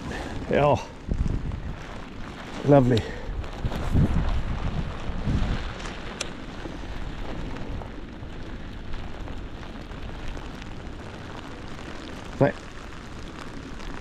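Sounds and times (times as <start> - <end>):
rain falling: 0.0 - 14.0
wind buffeting microphone: 0.0 - 14.0.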